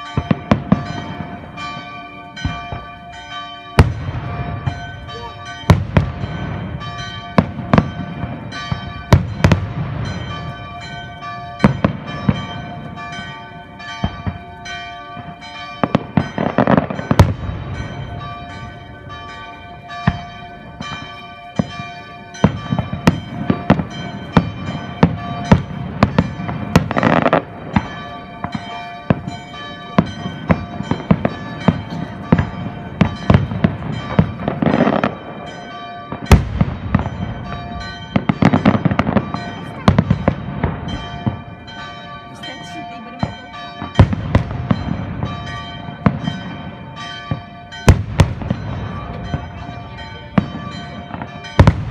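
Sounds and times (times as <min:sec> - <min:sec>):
church bells ringing: 0:00.0 - 0:51.9
fireworks banging: 0:00.0 - 0:51.9
fireworks crackling: 0:00.0 - 0:51.9.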